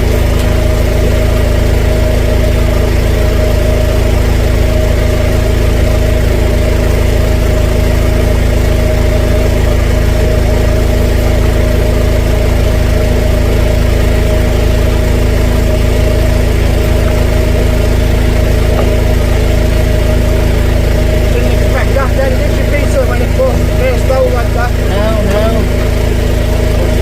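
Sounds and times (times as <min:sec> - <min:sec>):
drain jetter engine humming: 0:00.0 - 0:27.0.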